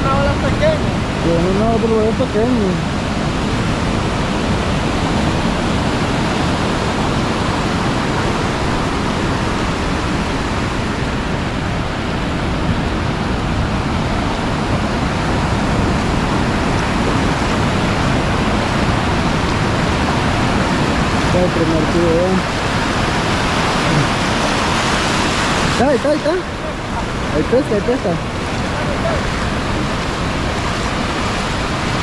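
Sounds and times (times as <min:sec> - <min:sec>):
ocean surf breaking on sand: 0:00.0 - 0:32.0.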